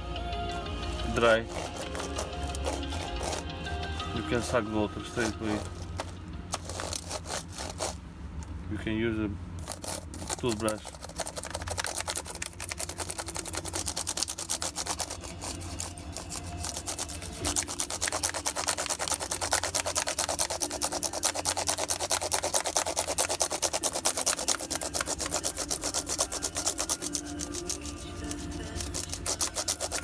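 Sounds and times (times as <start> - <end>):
toothbrush scrubbing keyboard keys: 0.6 - 8.0, 9.6 - 30.0.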